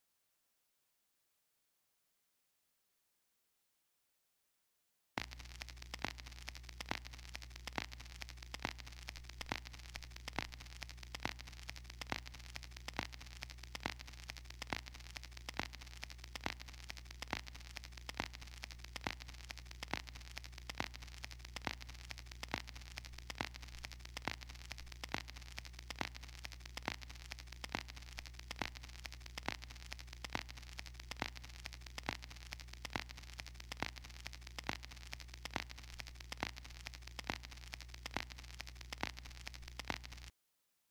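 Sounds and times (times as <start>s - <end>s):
sharp ticking clicks: 5.2s - 40.2s
low electrical hum: 5.2s - 40.3s.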